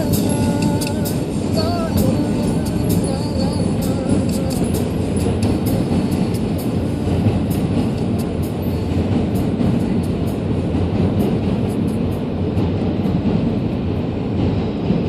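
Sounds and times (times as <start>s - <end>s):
subway train rumble: 0.0s - 15.0s
wheels clicking over rails: 0.0s - 15.0s.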